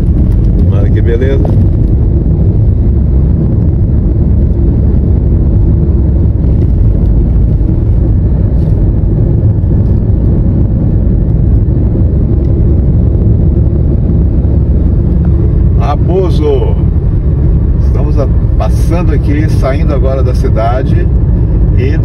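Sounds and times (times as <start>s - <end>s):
car driving interior drone: 0.0s - 22.0s
wind noise: 0.0s - 22.0s.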